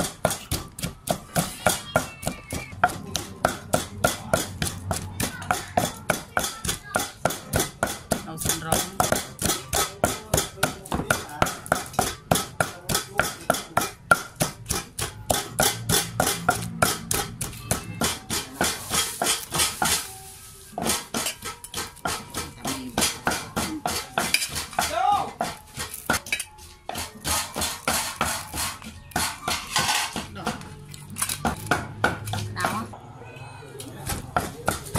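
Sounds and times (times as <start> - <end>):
pestle pounding in mortar: 0.0 - 20.1, 20.8 - 26.3, 26.9 - 30.7, 31.4 - 32.9, 34.0 - 34.9.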